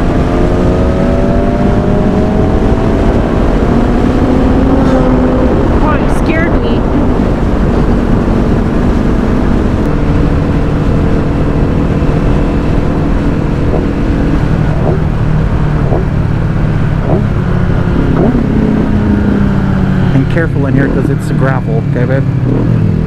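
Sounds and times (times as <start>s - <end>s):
wind rush on microphone: 0.0s - 21.2s
motorcycle engine cruising: 0.0s - 23.0s.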